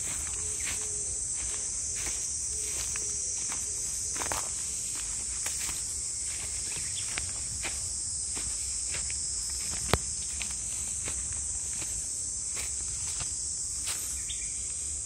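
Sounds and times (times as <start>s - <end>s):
footsteps and handling rustles: 0.0s - 14.3s
insects chorus: 0.0s - 15.0s.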